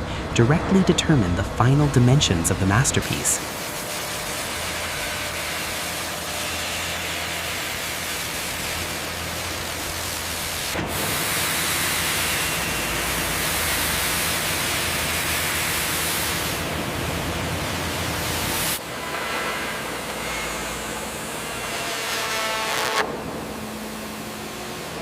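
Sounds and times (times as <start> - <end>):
machinery hissing rush: 0.0 - 25.0.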